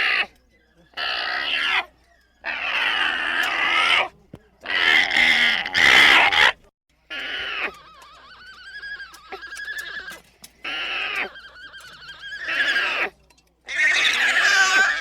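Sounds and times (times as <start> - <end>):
alpaca high-pitched cries: 0.0 - 6.5, 7.1 - 15.0.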